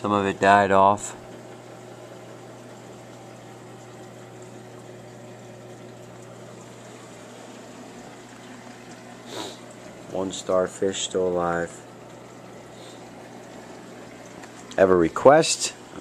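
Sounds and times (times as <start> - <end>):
aquarium water rushing: 0.0 - 16.0
low pump hum: 0.0 - 16.0.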